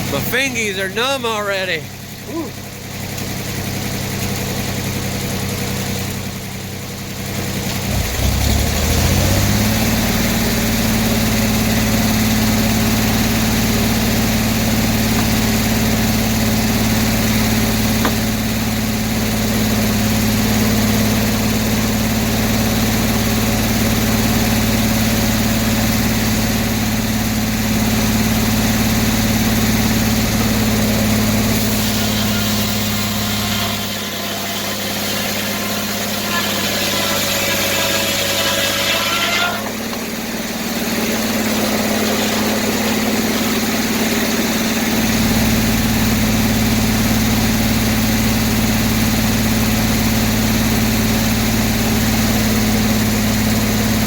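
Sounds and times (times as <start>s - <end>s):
sawmill power engine running: 0.0s - 54.0s.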